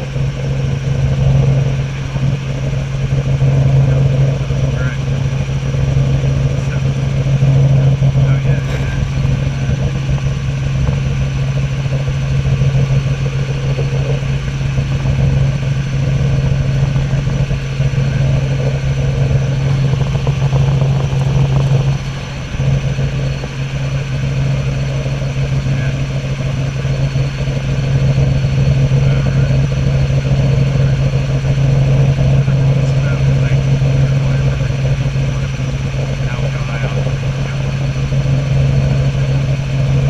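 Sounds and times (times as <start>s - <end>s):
helicopter engine and rotors droning: 0.0s - 40.0s.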